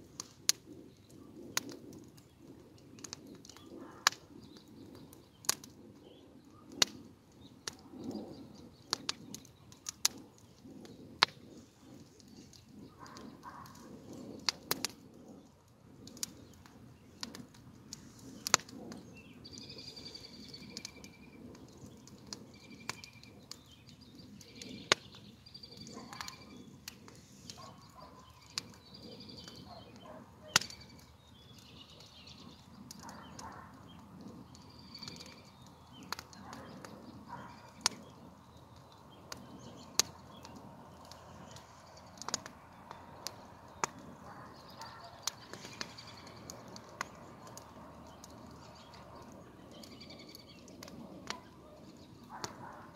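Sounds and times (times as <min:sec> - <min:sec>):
sharp pops and cracks: 0:00.0 - 0:52.9
songbirds singing: 0:00.1 - 0:52.9.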